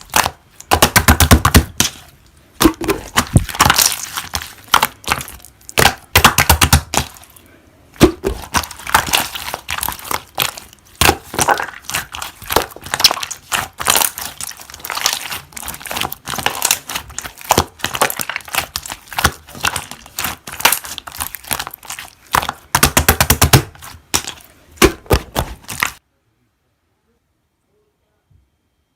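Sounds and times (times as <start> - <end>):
slime crackling and popping: 0.0 - 7.4, 8.0 - 26.0.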